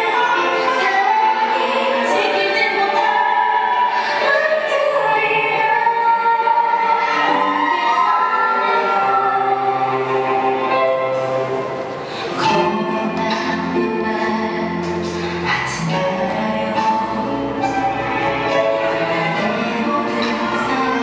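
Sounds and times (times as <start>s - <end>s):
person singing with music: 0.0s - 21.0s.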